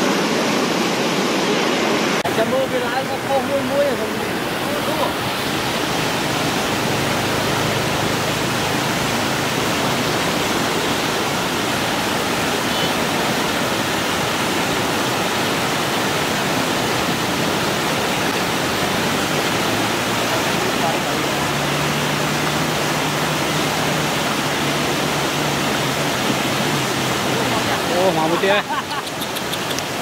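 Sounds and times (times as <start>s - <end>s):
floodwater rushing over dam: 0.0s - 30.0s.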